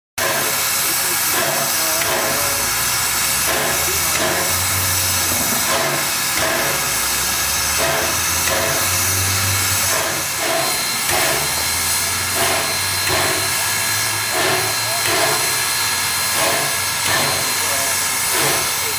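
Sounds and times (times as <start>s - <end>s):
steam hissing from locomotive: 0.2s - 18.9s.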